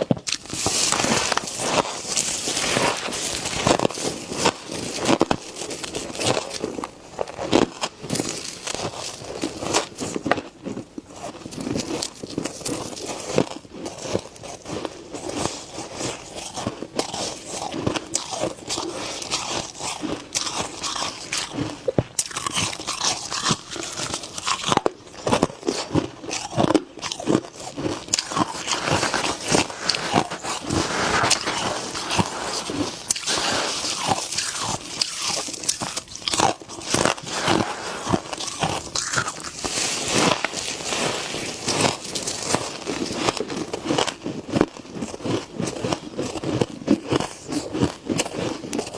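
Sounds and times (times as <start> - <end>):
person chewing crunchy frost: 0.0 - 48.9.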